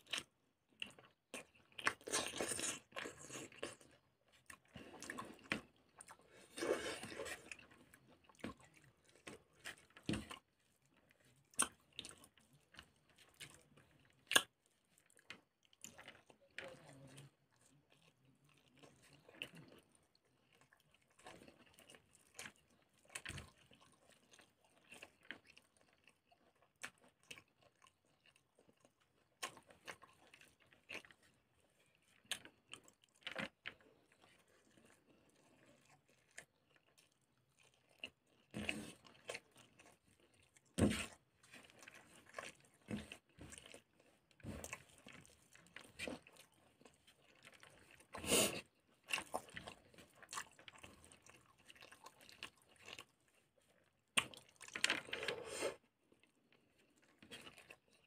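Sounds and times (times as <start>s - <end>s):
person chewing with wet clicks: 0.0s - 58.0s.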